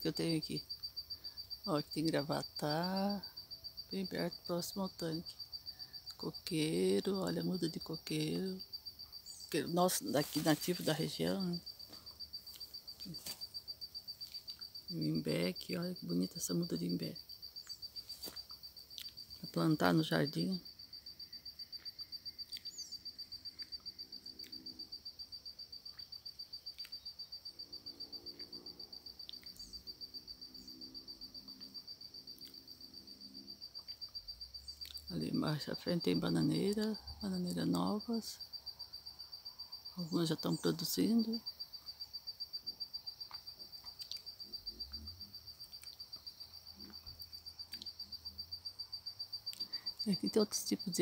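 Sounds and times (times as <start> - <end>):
insect chirping: 0.0 - 51.0.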